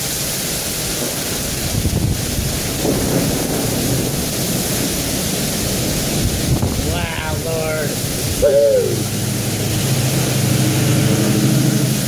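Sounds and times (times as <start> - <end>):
gusting wind: 0.0 - 12.0
torrential rain: 0.0 - 12.0.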